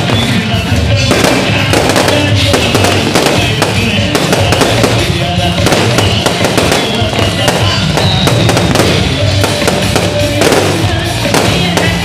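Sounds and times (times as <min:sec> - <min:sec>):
fireworks bangs and crackles: 0:00.0 - 0:12.0
music playing: 0:00.0 - 0:12.0.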